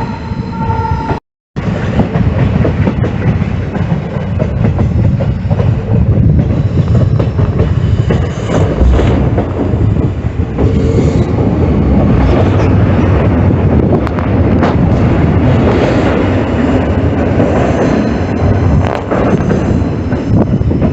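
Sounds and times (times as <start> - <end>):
heavy train rumble: 0.0 - 20.9
train wheels clattering: 1.6 - 20.9.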